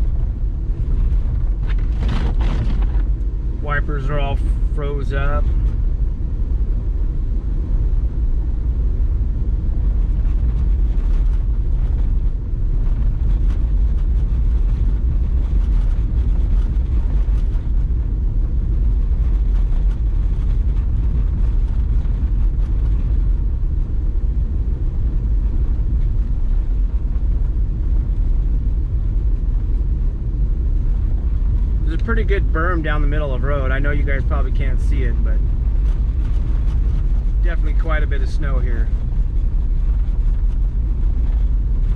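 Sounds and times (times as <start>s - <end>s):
engine and tyres rumbling: 0.0s - 41.9s.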